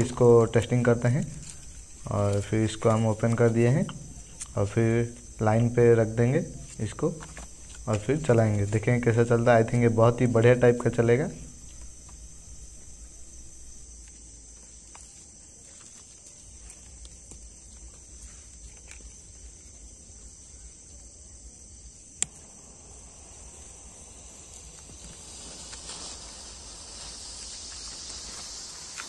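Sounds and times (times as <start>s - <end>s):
crickets chirping: 0.0s - 29.0s
smoke crackers hissing: 0.0s - 29.0s.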